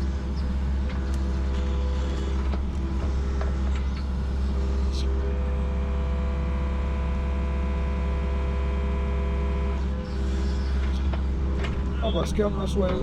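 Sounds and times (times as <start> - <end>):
mini excavator diesel drone: 0.0 - 13.0.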